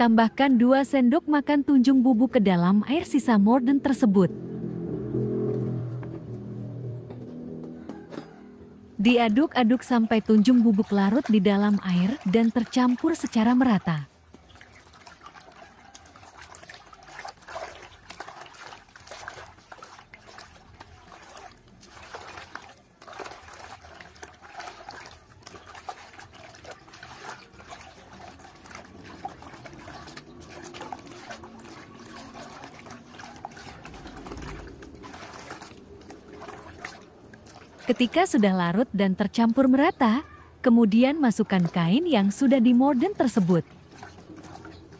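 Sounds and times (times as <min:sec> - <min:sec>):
water sloshing in a plastic basin: 0:00.0 - 0:44.9.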